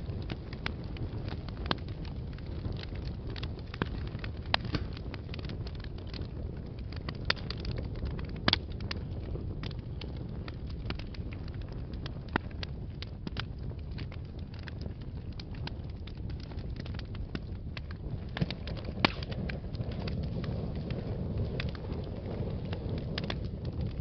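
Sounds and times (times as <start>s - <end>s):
burning logs crackling and popping: 0.0s - 24.0s
low rumble of flames: 0.0s - 24.0s.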